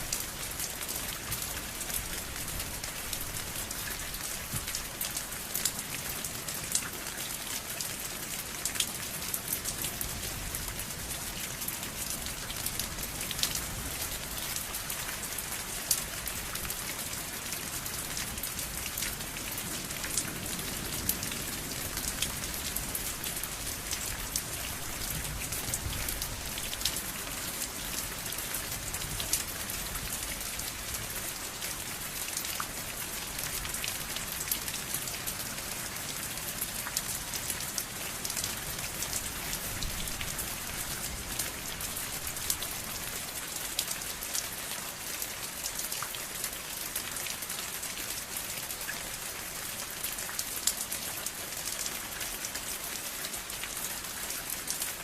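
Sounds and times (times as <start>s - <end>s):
raindrops pattering on surface: 0.0s - 55.0s
steady rain falling: 0.0s - 55.0s.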